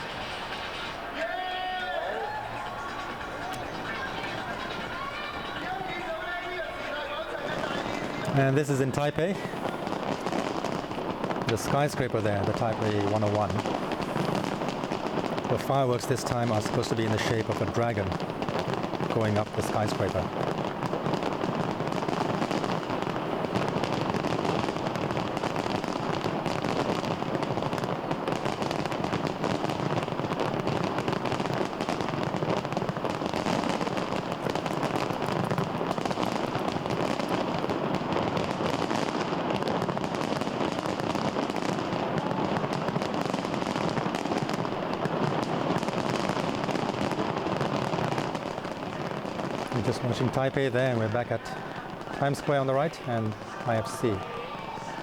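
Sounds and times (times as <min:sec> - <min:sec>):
fireworks crackling and popping: 0:00.0 - 0:55.0.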